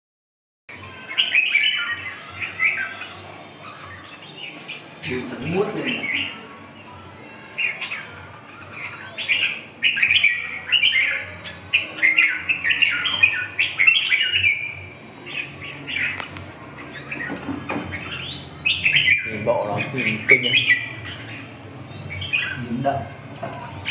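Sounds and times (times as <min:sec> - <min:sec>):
birds chattering song: 0:00.7 - 0:23.9.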